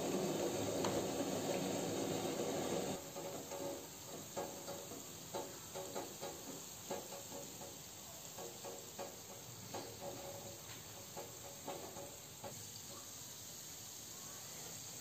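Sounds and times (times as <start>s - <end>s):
oil sizzling while deep-frying: 0.0s - 15.0s.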